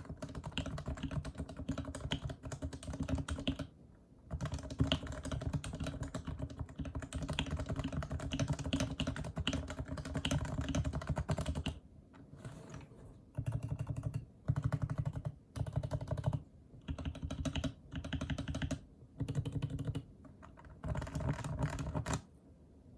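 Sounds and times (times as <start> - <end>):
typing on a keyboard: 0.0 - 3.7, 4.3 - 11.8, 13.3 - 22.3.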